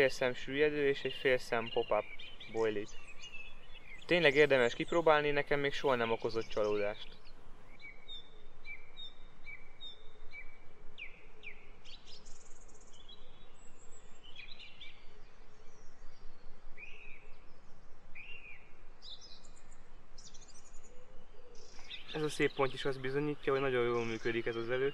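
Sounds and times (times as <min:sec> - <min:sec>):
outdoor background hiss: 0:00.0 - 0:24.9
small birds chirping: 0:00.0 - 0:24.9.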